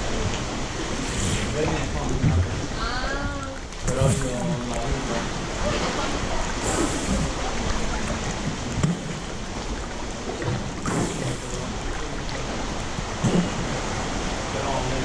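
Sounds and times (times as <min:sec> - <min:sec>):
seawater sloshing and lapping: 0:00.0 - 0:15.0
small water splashes: 0:00.0 - 0:15.0.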